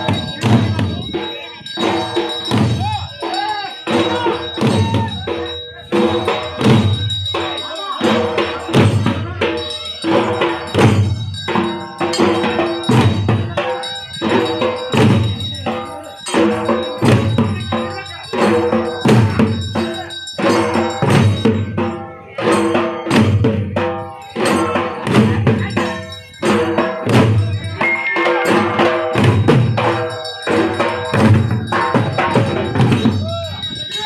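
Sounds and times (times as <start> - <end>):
barrel drums beaten with sticks: 0.0 - 34.0.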